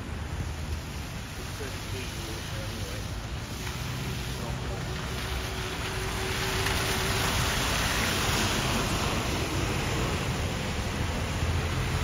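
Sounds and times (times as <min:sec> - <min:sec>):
bus passing: 0:00.0 - 0:12.0
tyres hissing on wet road: 0:00.0 - 0:12.0.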